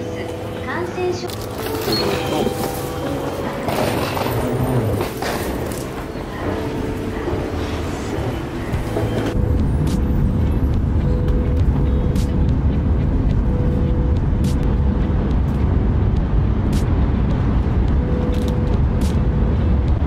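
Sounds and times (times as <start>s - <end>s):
train rumbling at speed: 0.0s - 20.0s.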